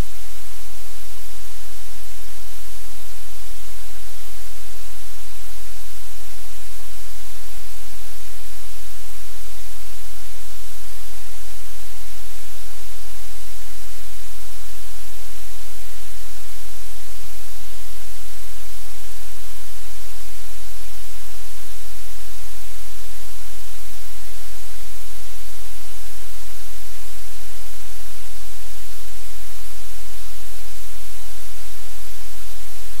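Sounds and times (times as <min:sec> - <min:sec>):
loud steady static hiss: 0:00.0 - 0:33.0.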